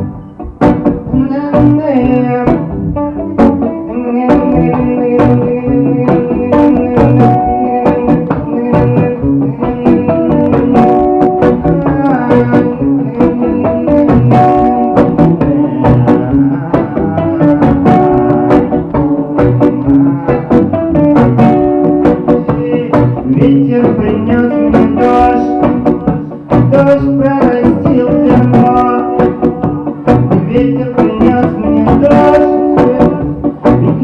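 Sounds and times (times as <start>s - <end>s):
live guitar music: 0.0s - 34.0s.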